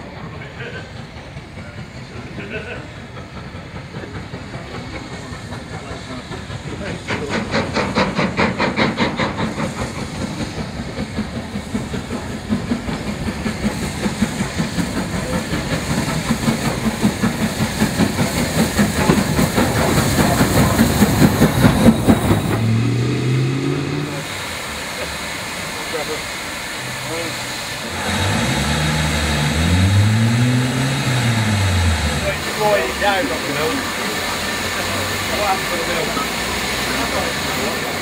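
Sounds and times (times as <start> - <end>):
steam hissing: 0.0 - 38.0
steam locomotive exhaust chuffs: 0.0 - 38.0.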